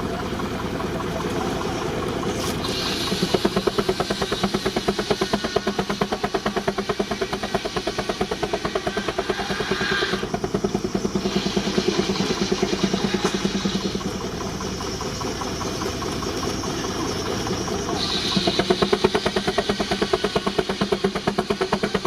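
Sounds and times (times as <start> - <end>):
steam engine exhaust beat: 0.0 - 22.0
steam hiss: 2.3 - 22.0.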